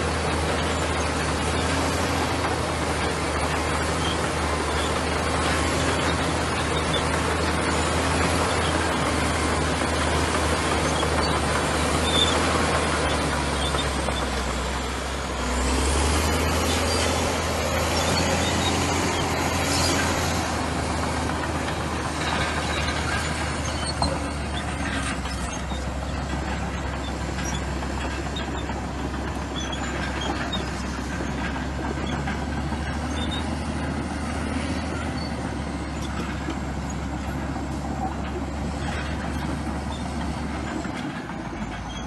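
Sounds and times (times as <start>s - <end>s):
bulldozer diesel engine running: 0.0s - 42.0s.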